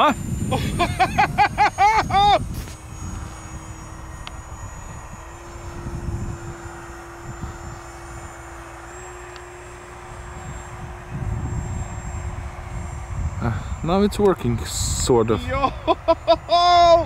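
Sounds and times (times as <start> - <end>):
electric motor and propeller whining: 0.0 - 17.0
wind buffeting microphone: 0.0 - 17.0.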